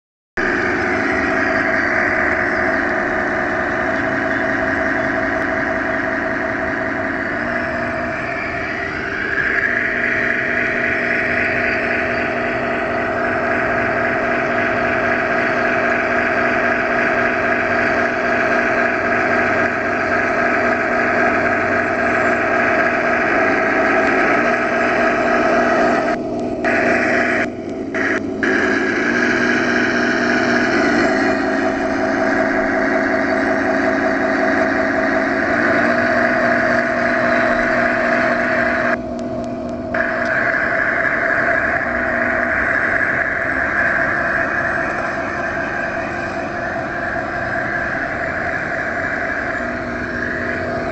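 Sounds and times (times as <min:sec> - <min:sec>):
model tank mechanical drone: 0:00.4 - 0:50.9.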